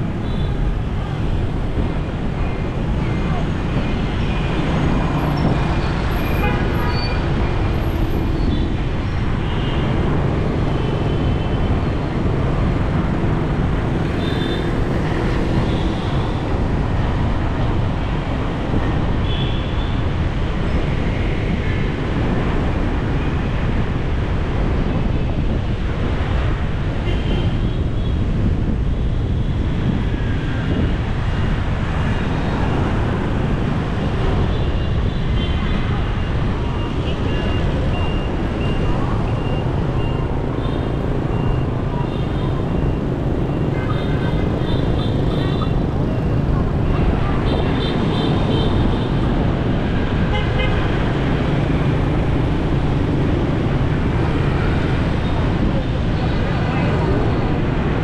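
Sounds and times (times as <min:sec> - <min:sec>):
traffic rumble from inside a vehicle: 0:00.0 - 0:58.0.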